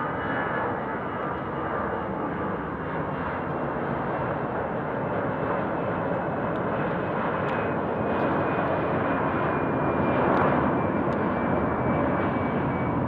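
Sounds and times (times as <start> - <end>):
jet airliner engine rush: 0.0 - 13.0.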